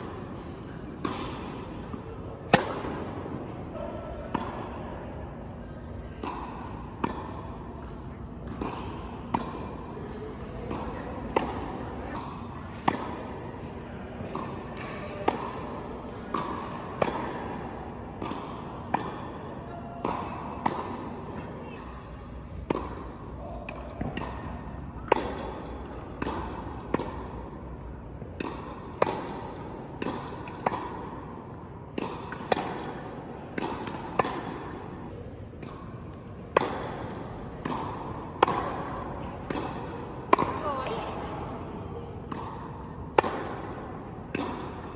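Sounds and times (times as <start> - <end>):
tennis ball bouncing on court: 0.0 - 3.6, 4.2 - 5.4, 6.2 - 19.4, 20.0 - 21.5, 22.5 - 44.9
tennis ball hit by rackets: 0.9 - 3.5, 4.2 - 4.9, 6.2 - 13.3, 14.2 - 19.4, 20.0 - 21.5, 22.5 - 23.1, 23.7 - 44.9.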